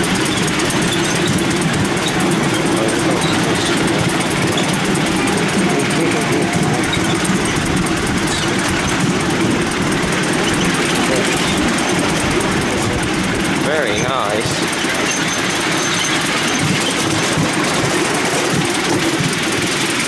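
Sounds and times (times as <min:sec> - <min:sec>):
miniature train rumbling and rattling: 0:00.0 - 0:20.0.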